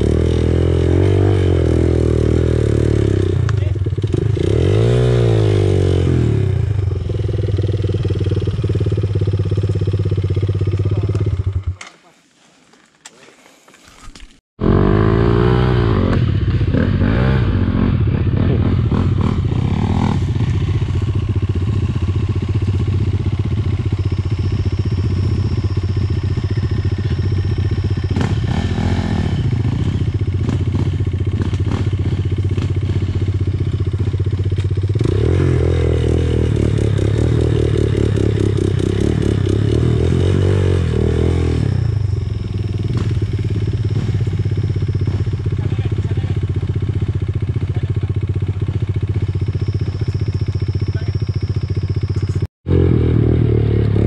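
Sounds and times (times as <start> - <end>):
dirt bike engine revving: 0.0 - 11.8, 14.6 - 54.0.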